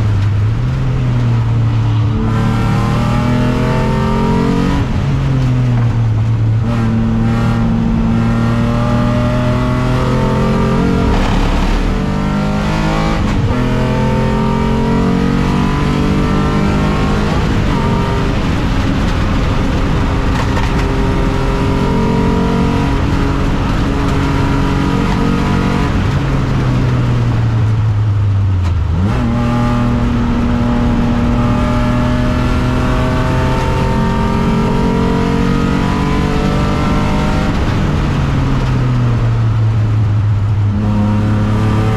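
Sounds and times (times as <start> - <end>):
race car engine revving: 0.0 - 27.9, 28.6 - 39.9, 40.7 - 41.9.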